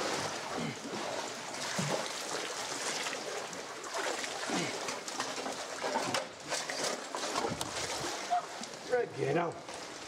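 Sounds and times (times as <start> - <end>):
paddle strokes splashing: 0.0 - 9.0.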